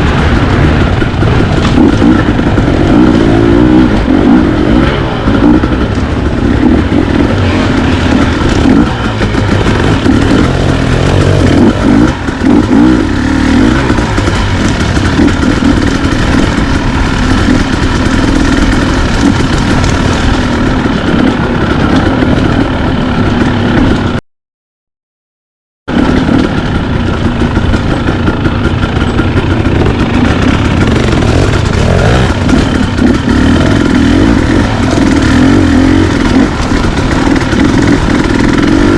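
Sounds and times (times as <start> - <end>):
dirt bike engine revving: 0.0 - 24.2, 25.9 - 38.9.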